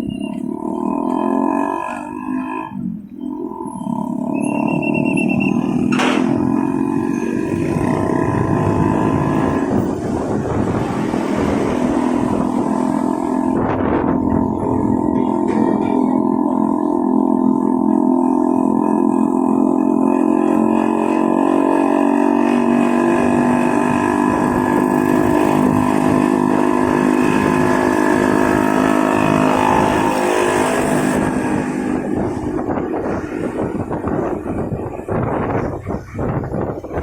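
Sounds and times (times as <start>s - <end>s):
motorcycle engine running: 0.0s - 37.0s
road and wind noise: 0.0s - 37.0s.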